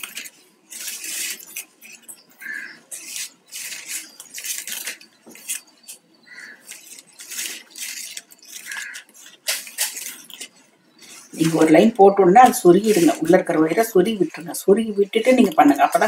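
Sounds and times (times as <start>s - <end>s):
plastic wires scraping and clicking: 0.0s - 13.8s, 15.2s - 16.0s.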